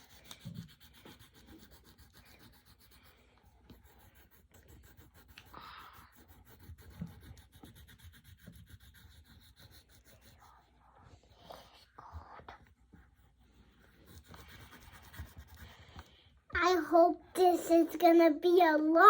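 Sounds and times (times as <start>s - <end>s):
pencil scratching on paper: 0.0s - 18.8s.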